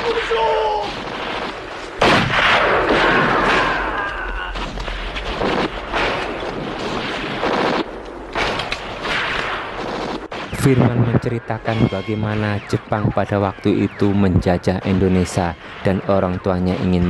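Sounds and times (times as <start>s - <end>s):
gunfire: 0.0s - 16.9s
explosions: 0.0s - 17.0s.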